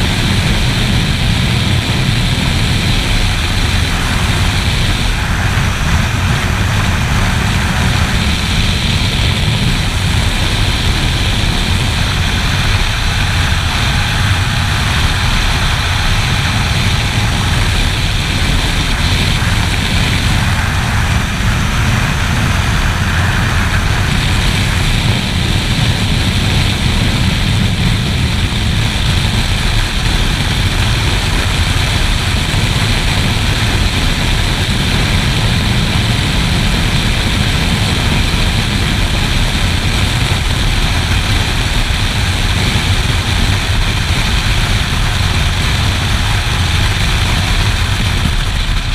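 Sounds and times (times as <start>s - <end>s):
motorcycle engine drone: 0.0s - 48.9s
wind roar on microphone: 0.0s - 48.9s.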